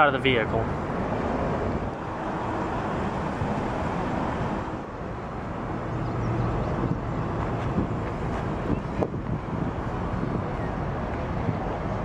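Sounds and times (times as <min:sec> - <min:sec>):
wind buffeting microphone: 0:00.6 - 0:12.0.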